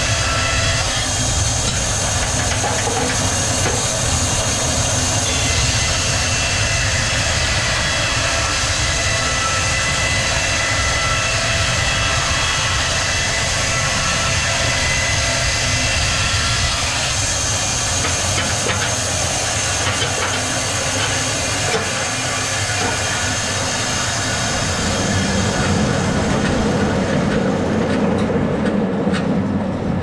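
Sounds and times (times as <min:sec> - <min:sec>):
high machine whine: 0:00.0 - 0:27.7
sawmill machinery din: 0:00.0 - 0:28.8.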